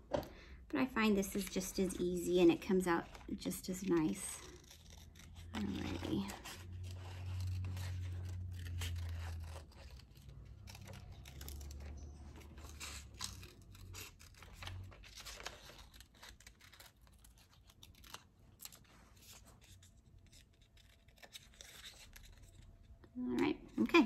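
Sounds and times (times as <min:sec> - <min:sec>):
scissors snipping paper: 0:01.2 - 0:22.7
paper rustling: 0:01.2 - 0:22.9.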